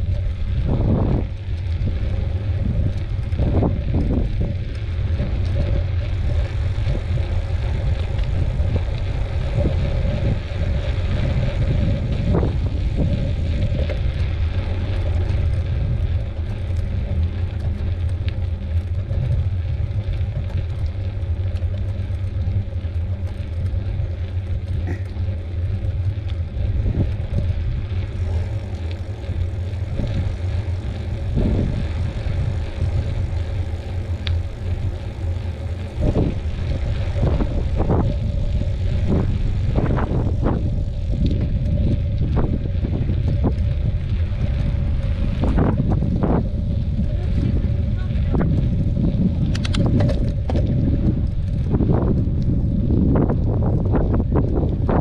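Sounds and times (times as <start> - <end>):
bicycle tyres rolling on trail: 0.0 - 55.0
wind buffeting microphone: 0.0 - 55.0.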